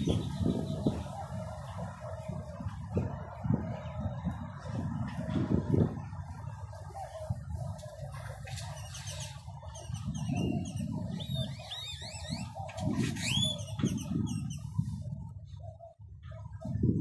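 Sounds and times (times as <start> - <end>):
small birds chirping: 0.0 - 4.6, 6.0 - 15.0.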